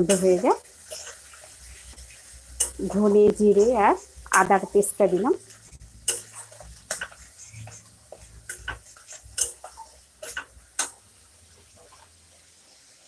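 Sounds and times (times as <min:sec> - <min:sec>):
spatula scraping metal pan: 0:00.1 - 0:11.0.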